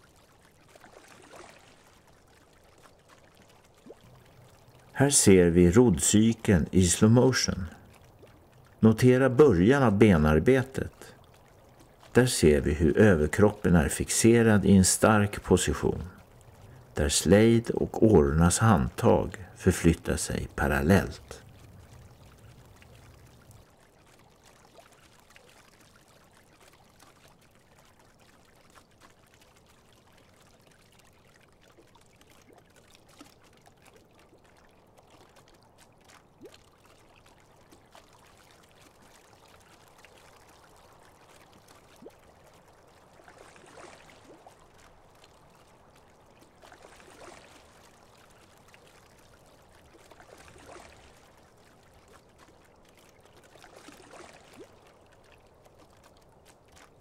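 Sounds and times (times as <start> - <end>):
oars moving through water: 0.0 - 57.0.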